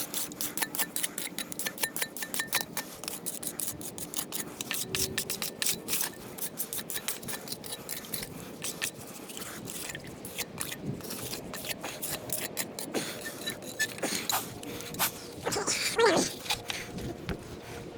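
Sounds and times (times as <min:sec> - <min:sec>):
hand tools scraping wet concrete: 0:00.0 - 0:16.9.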